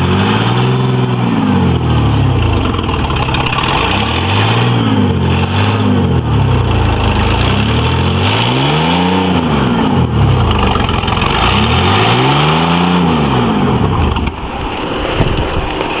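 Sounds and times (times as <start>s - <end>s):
truck engine revving: 0.0s - 15.6s
rough rushing noise: 0.0s - 16.0s.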